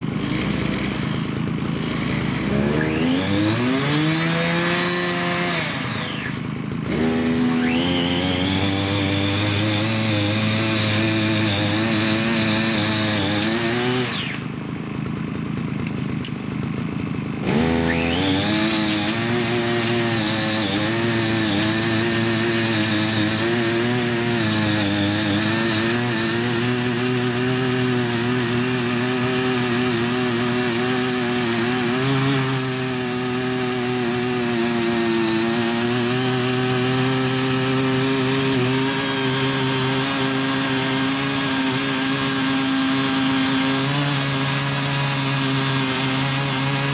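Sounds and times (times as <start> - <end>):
small petrol engine revving: 0.0 - 46.9
tines churning soil: 0.0 - 46.9.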